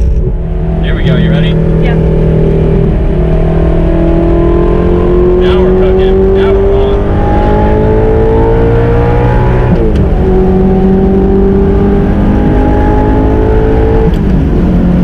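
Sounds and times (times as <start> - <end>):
car engine revving through gears: 0.0 - 15.0.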